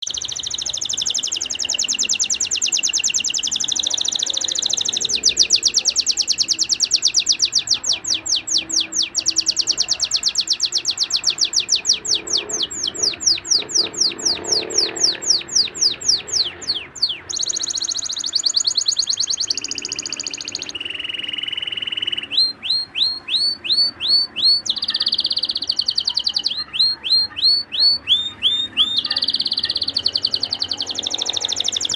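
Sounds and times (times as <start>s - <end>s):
canary singing trill: 0.0s - 31.9s.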